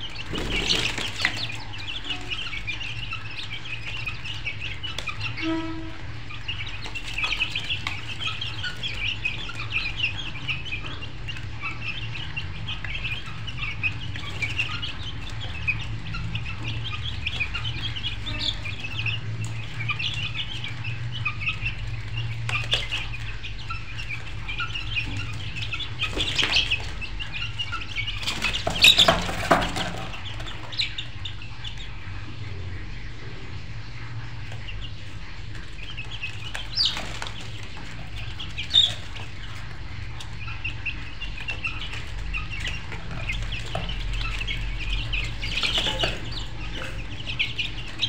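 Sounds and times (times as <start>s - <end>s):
poultry chirping and clucking: 0.0s - 48.0s.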